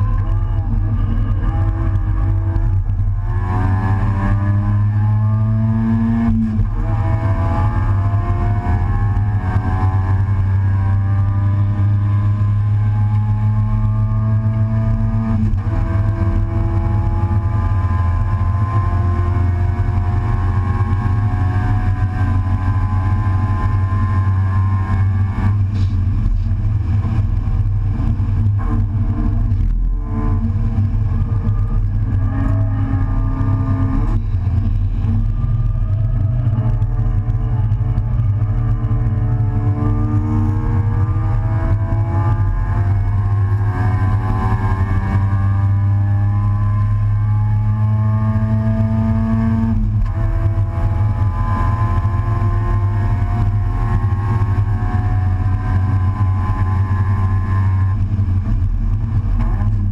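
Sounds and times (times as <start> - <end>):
race car engine under load: 0.0 - 59.9
wind and road rumble: 0.0 - 59.9.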